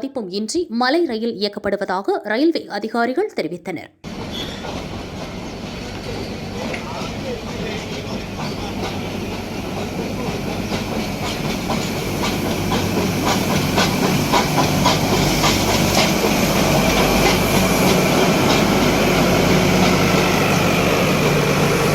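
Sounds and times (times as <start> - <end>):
train engine hum: 4.0 - 21.9
train wheels clicking on rail joints: 4.1 - 21.9.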